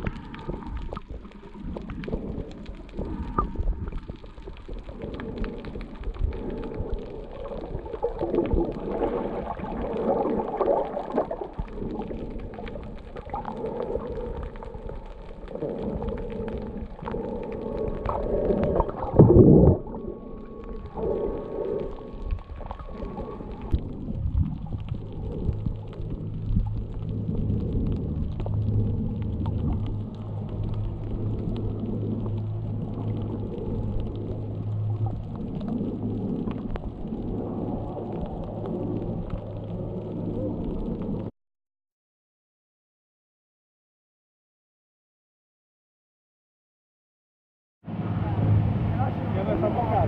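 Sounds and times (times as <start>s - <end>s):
muffled underwater water movement: 0.0s - 41.3s, 47.9s - 50.0s.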